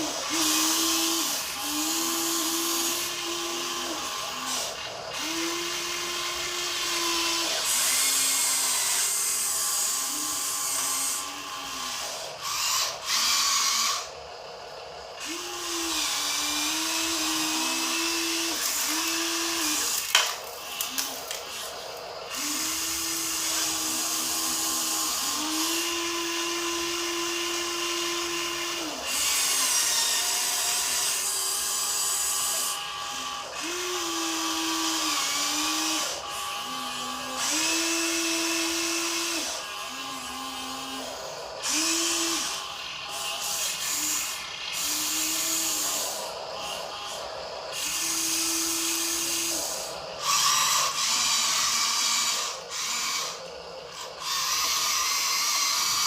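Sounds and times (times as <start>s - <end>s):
electric motor and gearbox whining: 0.0s - 56.0s.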